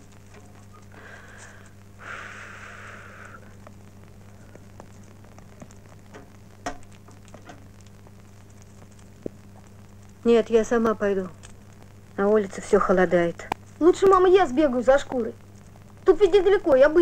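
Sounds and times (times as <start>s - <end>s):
film crackle and clicks: 0.0s - 17.0s
low mains hum: 0.0s - 17.0s.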